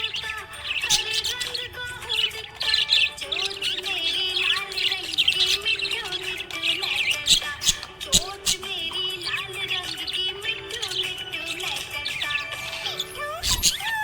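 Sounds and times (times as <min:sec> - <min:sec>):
budgerigars chirping and warbling: 0:00.0 - 0:14.0
song playing: 0:00.0 - 0:14.0.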